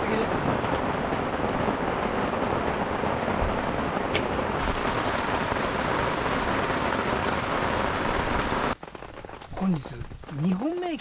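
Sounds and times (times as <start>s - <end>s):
heavy rain: 0.0s - 10.8s.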